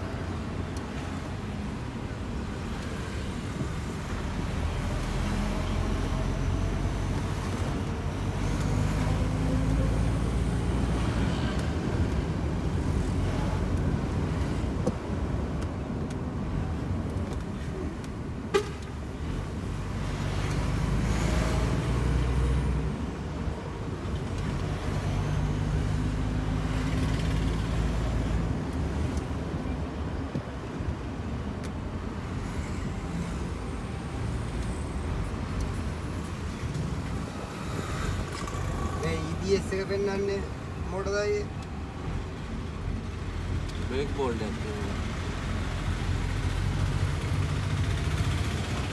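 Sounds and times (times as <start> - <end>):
truck diesel engine and road rumble: 0.0 - 48.9.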